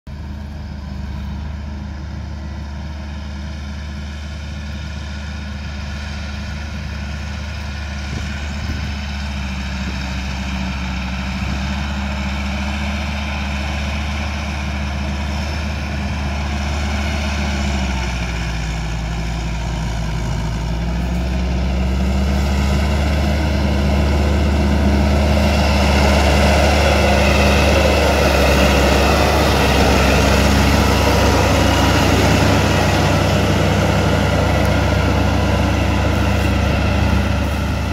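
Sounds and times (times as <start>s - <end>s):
tractor diesel engine running: 0.1s - 37.9s.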